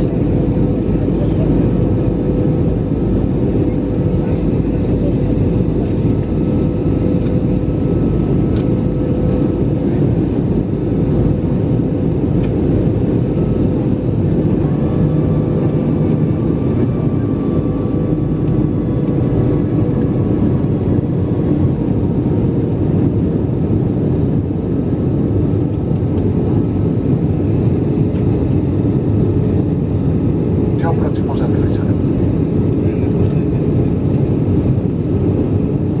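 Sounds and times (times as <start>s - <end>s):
jet engines droning: 0.0s - 36.0s.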